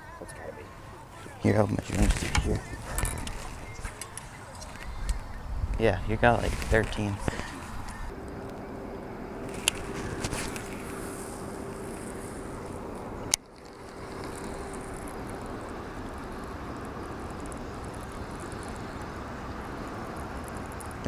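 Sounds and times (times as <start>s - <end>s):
faint steady hum: 0.0s - 21.0s
outdoor noise on a boat: 0.0s - 21.0s.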